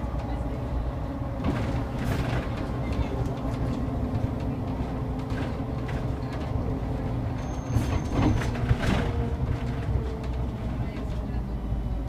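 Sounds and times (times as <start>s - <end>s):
bus engine and road rumble: 0.0s - 12.0s
rattles and knocks: 1.4s - 11.3s.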